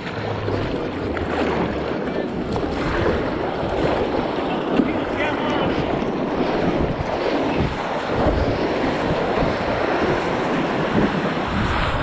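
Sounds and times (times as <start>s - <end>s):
water rushing and splashing: 0.0s - 12.0s
wind buffeting microphone: 0.0s - 12.0s.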